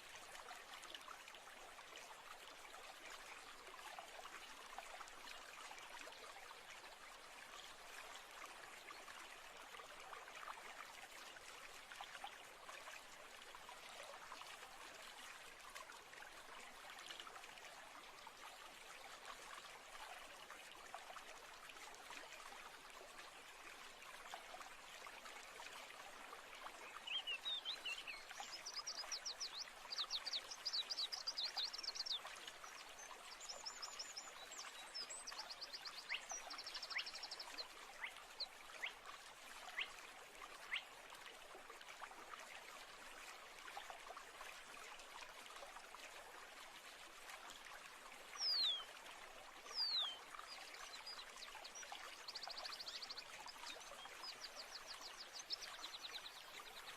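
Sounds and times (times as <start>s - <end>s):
trickling stream: 0.0s - 56.9s.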